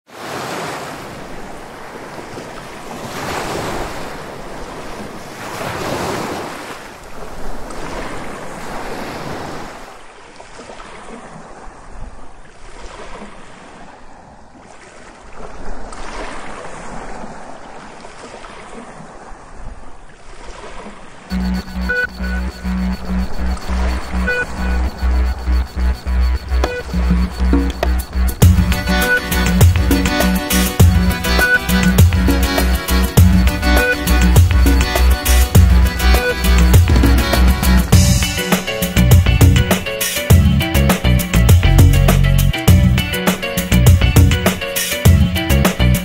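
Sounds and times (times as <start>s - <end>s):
waves breaking: 0.1s - 46.0s.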